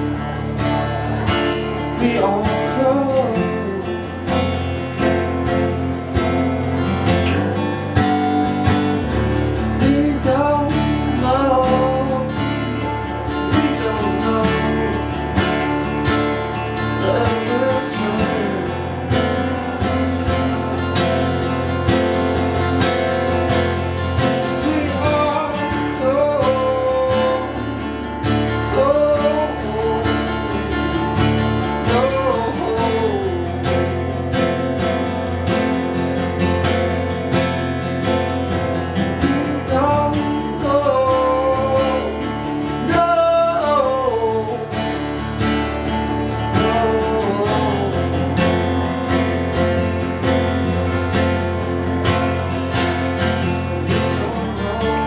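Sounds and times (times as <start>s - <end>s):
acoustic guitars strumming chords: 0.0s - 55.0s
guitar melody line: 0.0s - 55.0s.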